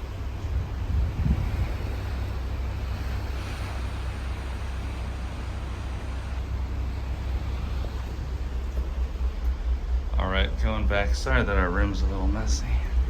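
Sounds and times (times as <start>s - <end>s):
rushing air and sea: 0.0s - 13.0s
wind buffeting microphone: 0.0s - 13.0s.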